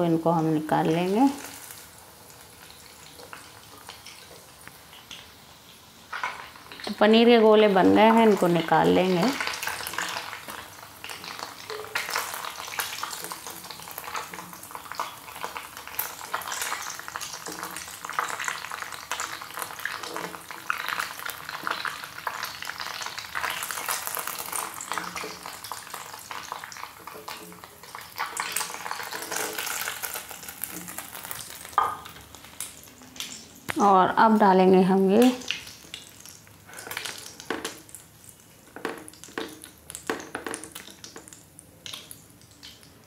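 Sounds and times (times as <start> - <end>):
food deep-frying in oil: 0.0 - 43.0.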